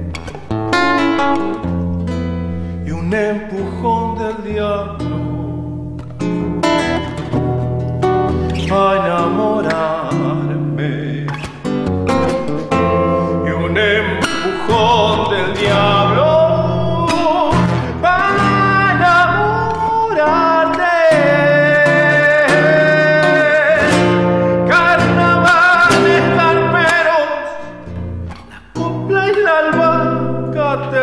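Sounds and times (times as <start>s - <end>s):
fingerpicked acoustic guitar: 0.0s - 31.0s
man singing with vibrato: 2.5s - 7.4s, 8.3s - 31.0s.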